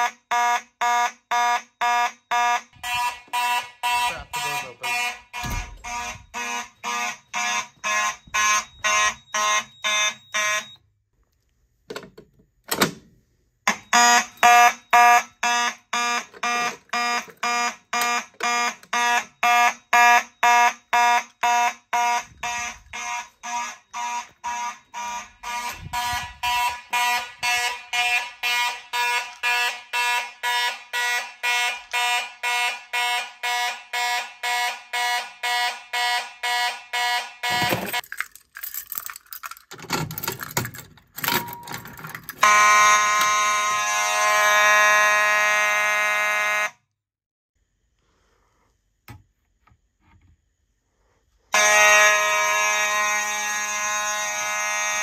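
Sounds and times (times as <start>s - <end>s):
fire alarm horns pulsing: 0.0s - 10.8s, 13.6s - 38.0s, 41.2s - 46.9s, 51.5s - 55.0s.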